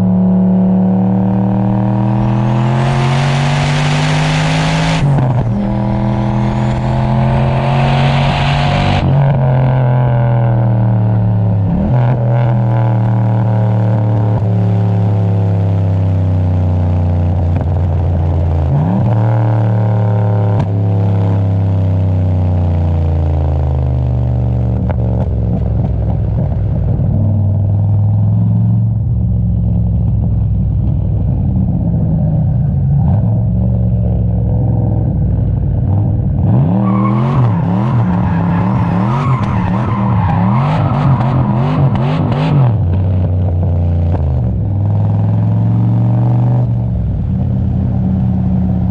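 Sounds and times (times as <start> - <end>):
car engine accelerating hard: 0.0 - 16.3, 23.2 - 48.9.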